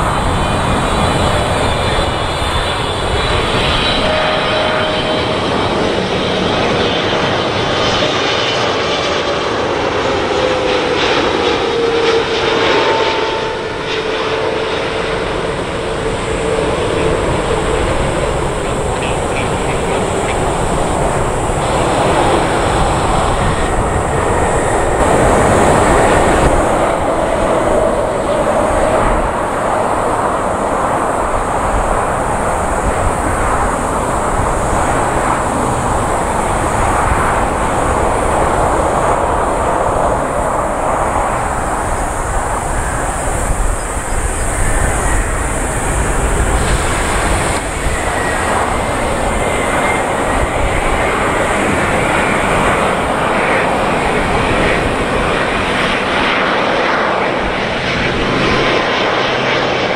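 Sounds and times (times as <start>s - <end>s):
jet airliner engines roaring: 0.0s - 59.9s.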